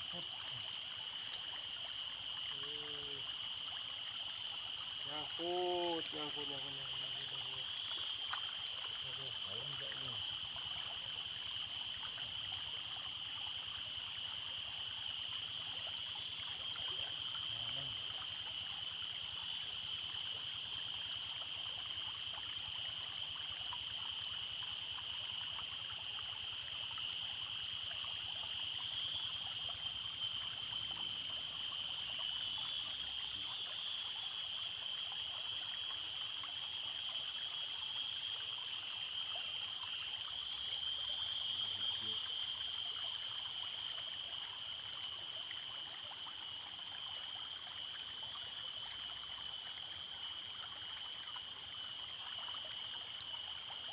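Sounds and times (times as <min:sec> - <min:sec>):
stream water running: 0:00.0 - 0:53.9.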